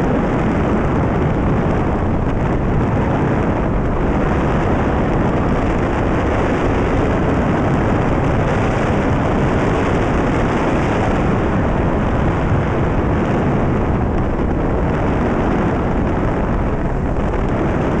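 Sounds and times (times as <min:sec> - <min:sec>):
tyre and wind noise: 0:00.0 - 0:18.0.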